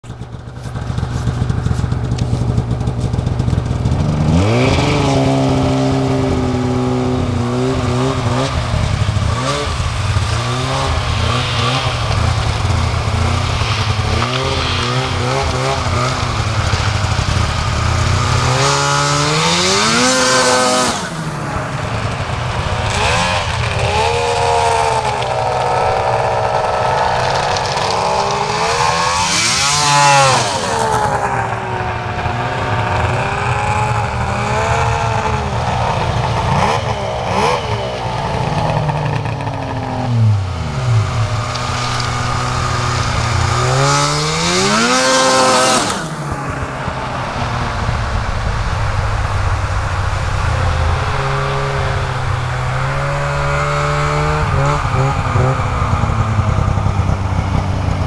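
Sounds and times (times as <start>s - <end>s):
snowmobiles revving past: 0.2s - 58.0s.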